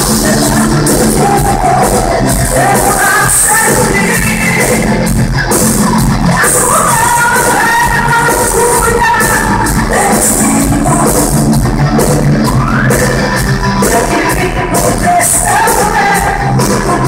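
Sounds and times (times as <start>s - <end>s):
woman singing: 0.0s - 5.2s, 6.0s - 11.6s, 13.8s - 17.0s
live pop rock band: 0.0s - 17.0s.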